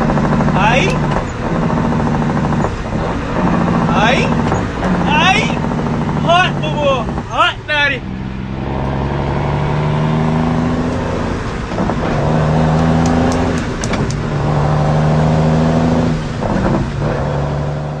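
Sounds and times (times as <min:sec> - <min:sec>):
truck engine running under load: 0:00.0 - 0:18.0.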